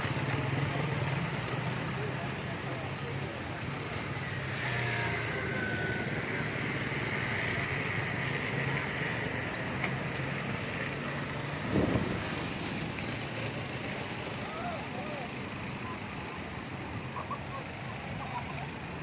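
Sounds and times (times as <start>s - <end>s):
low engine hum: 0.0s - 19.0s
road vehicles passing: 0.0s - 19.0s.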